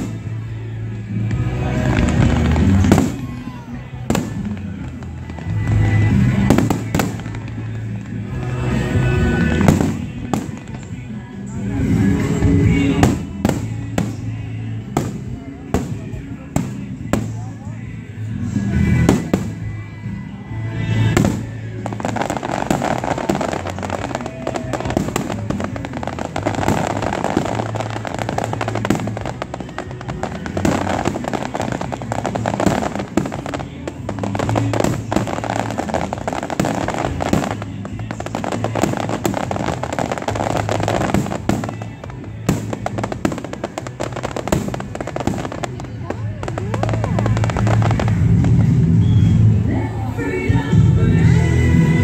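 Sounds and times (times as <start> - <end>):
fireworks crackle: 0.0 - 49.8.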